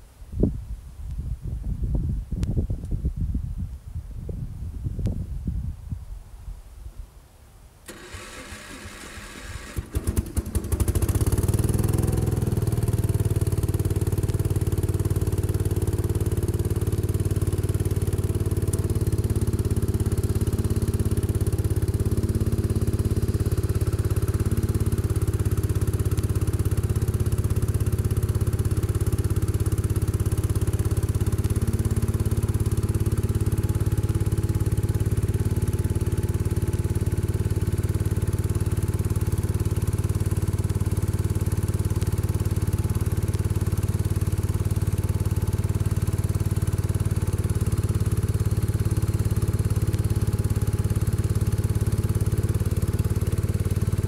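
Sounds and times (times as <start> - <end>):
tractor engine running: 7.9 - 54.0.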